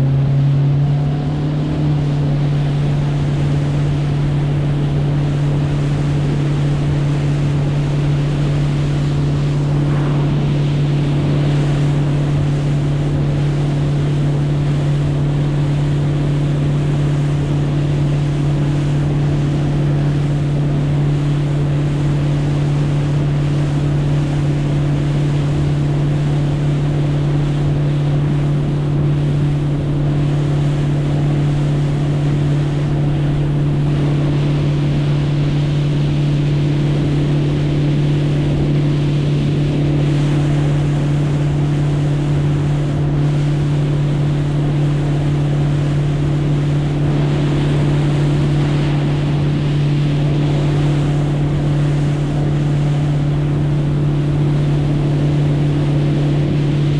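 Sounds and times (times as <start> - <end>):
boat motor humming: 0.0 - 56.9
water noise: 0.0 - 56.9
wind noise: 0.0 - 56.9.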